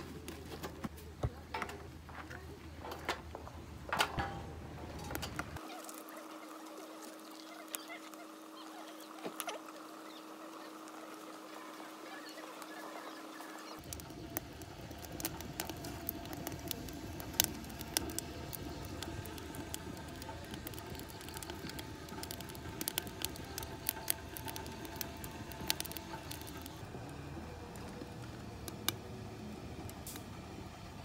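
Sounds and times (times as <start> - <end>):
wood fire crackling and popping: 4.0 - 31.0.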